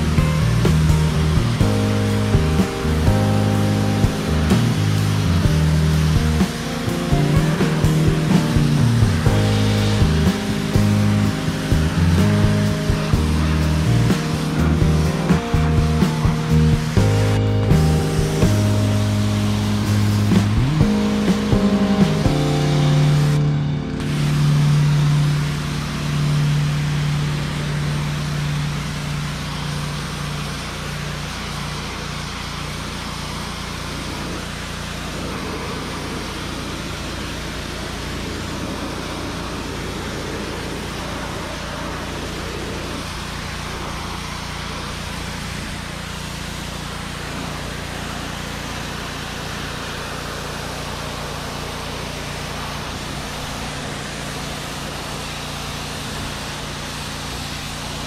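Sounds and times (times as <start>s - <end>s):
water jet hissing on tyre: 0.0s - 23.4s, 24.0s - 58.0s
pressure washer engine running: 0.0s - 58.0s.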